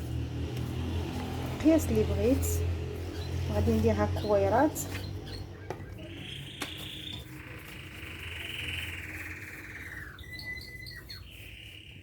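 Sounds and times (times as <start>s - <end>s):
songbird singing: 0.4s - 12.0s.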